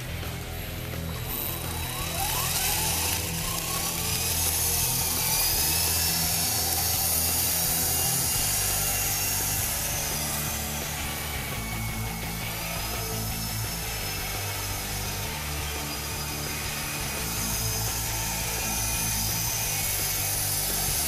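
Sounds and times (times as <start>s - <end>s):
rc helicopter motor whine: 0.0s - 21.0s.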